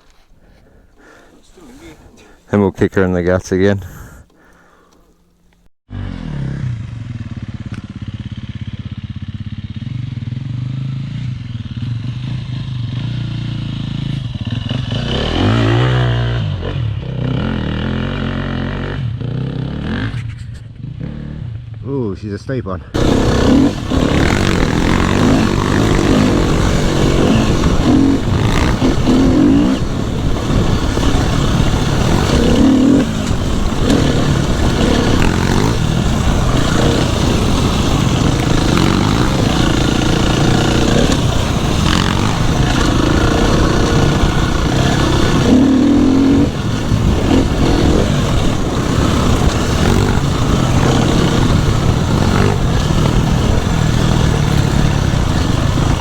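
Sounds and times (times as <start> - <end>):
dirt bike engine revving: 0.0 - 20.2, 23.0 - 56.0.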